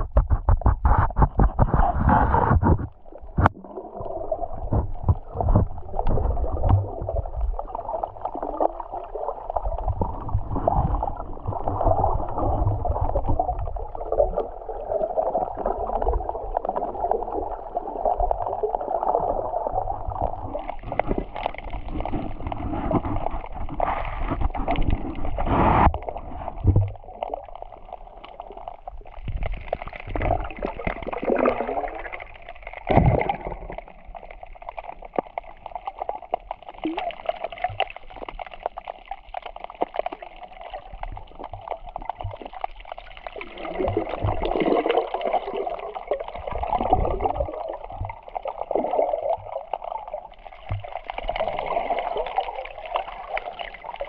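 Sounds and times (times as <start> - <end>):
underwater water gurgling: 0.0 - 54.0.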